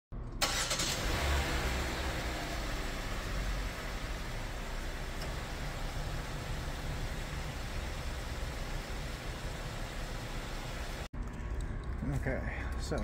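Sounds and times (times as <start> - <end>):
car engine starting and idling: 0.2 - 13.0.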